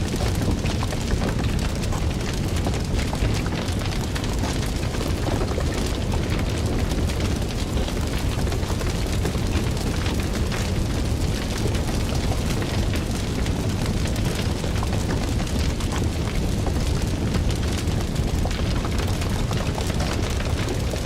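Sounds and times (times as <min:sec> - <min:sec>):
fire crackling and popping: 0:00.0 - 0:21.0
fire roaring: 0:00.0 - 0:21.0.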